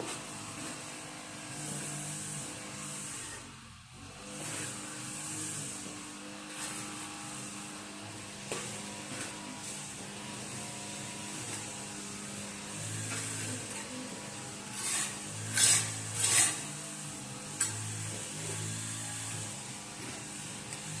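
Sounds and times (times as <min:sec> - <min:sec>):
hand tool scraping wall: 0:04.2 - 0:21.0.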